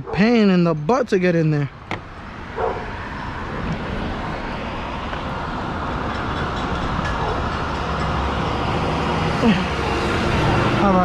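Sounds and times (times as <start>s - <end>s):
passing vehicle rumble: 1.7s - 11.0s.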